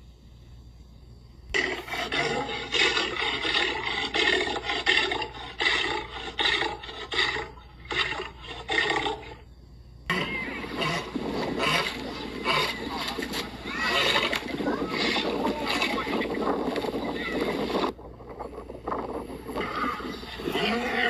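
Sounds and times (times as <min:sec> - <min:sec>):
steady noisy sound: 0:00.0 - 0:21.0
lion grunting: 0:01.5 - 0:21.0.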